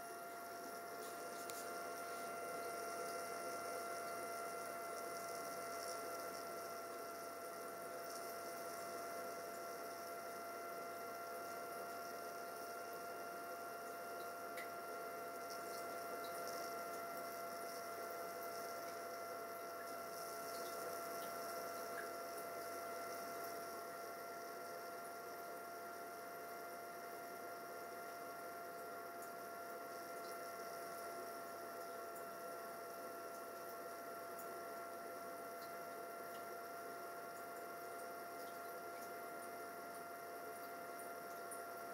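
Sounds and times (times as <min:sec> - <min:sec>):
electrical hum: 0:00.0 - 0:41.9
faint constant whine: 0:00.0 - 0:41.9.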